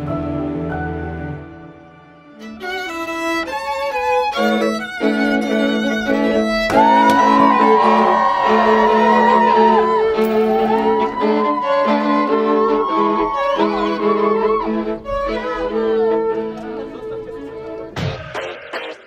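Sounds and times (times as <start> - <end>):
violin playing: 1.3 - 18.0.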